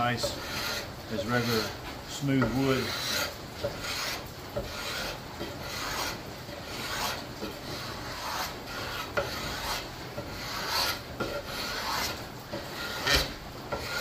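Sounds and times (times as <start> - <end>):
steel scraper on wooden handle: 0.0 - 14.0.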